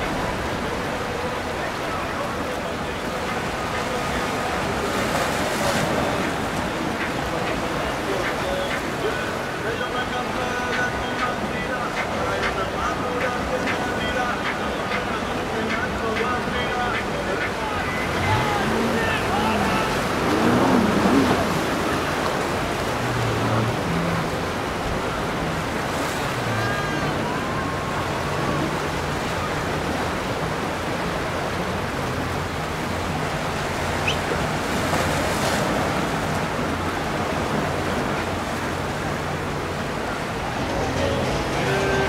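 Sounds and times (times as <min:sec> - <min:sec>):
boat engines humming: 0:00.0 - 0:42.0
waves washing: 0:00.0 - 0:42.0
wind over water: 0:00.0 - 0:42.0.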